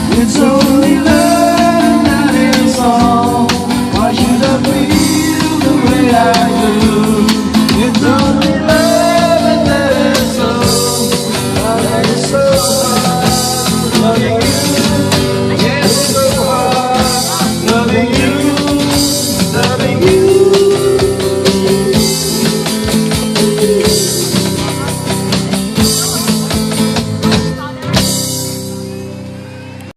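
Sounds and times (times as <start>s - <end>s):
drum kit: 0.0s - 29.4s
electric guitar: 0.0s - 29.9s
melodic voice line: 0.0s - 29.9s.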